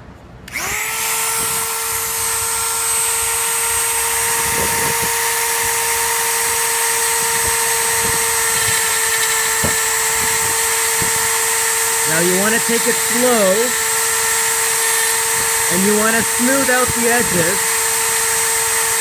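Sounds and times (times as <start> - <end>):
rotary tool whining: 0.5 - 19.0.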